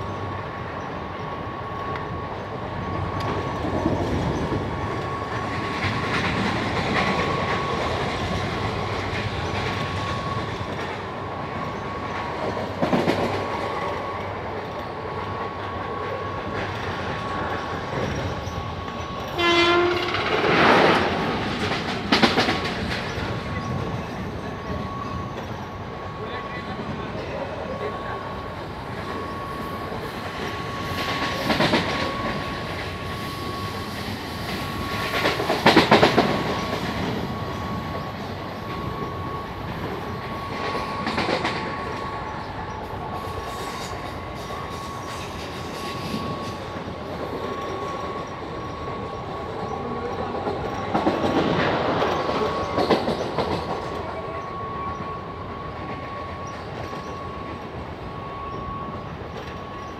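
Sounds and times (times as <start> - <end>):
train rushing rumble: 0.0 - 59.9.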